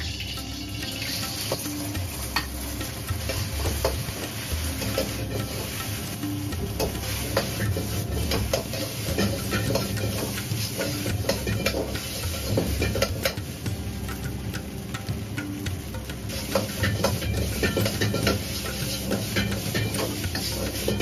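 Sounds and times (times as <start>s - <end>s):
metal ladle scraping a wok: 0.0s - 6.2s, 6.8s - 13.4s, 16.3s - 21.0s
food sizzling in a wok: 0.0s - 21.0s
gas burner rumble: 0.0s - 21.0s.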